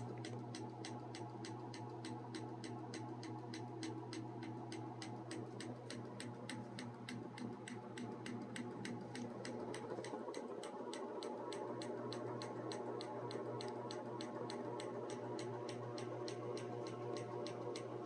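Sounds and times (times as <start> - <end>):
ceiling fan motor humming: 0.0 - 18.0
light regular ticking: 0.0 - 18.0.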